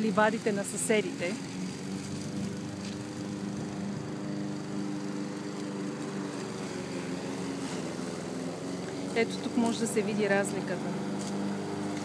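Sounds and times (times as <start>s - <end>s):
lawn mower engine cutting grass: 0.0s - 12.0s.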